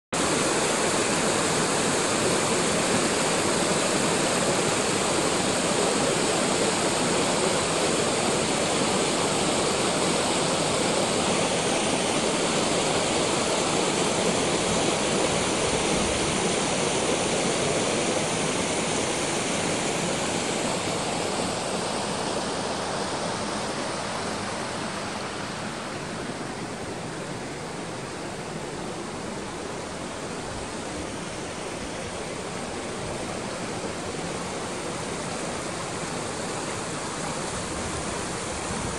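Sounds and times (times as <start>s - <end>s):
river rushing over rocks: 0.2s - 38.9s.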